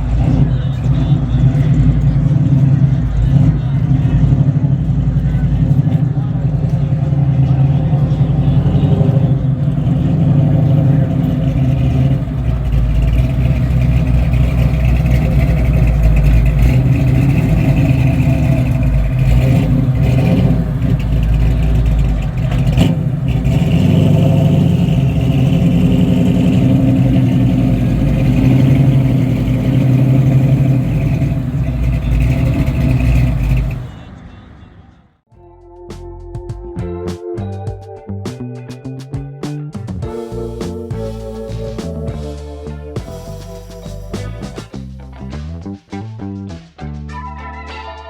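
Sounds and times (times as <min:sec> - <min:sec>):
car engine rumbling: 0:00.0 - 0:37.6, 0:38.6 - 0:47.0.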